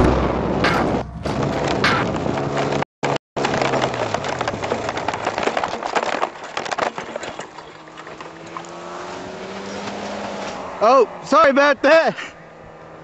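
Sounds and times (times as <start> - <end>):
cart knocking and bumping on ground: 0.0 - 10.6.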